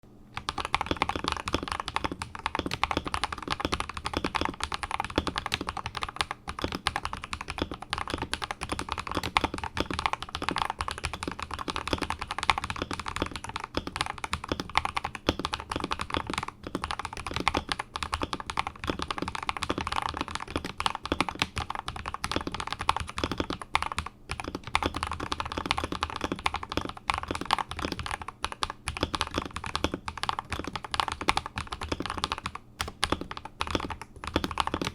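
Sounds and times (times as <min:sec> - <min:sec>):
mechanical keyboard typing: 0:00.4 - 0:34.9.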